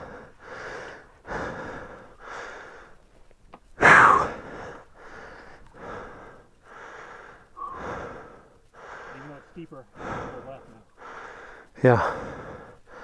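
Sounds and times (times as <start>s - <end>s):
person breathing hard: 0.0s - 3.1s, 3.8s - 13.0s.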